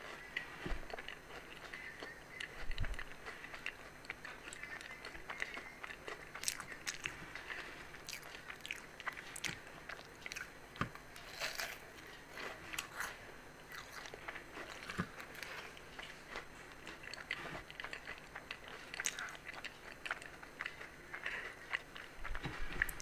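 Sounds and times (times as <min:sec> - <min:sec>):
crisp pastry crunching while chewing: 0:00.0 - 0:23.0.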